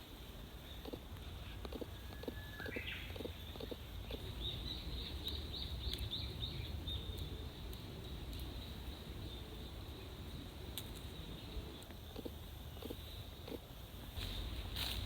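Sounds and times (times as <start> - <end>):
songbird singing: 0.6 - 13.4.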